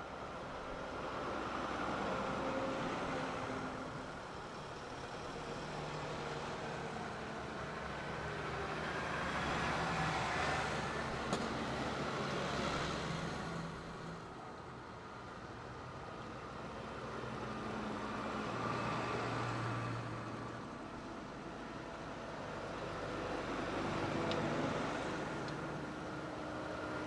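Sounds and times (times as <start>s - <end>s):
tractor engines droning: 0.0s - 27.0s.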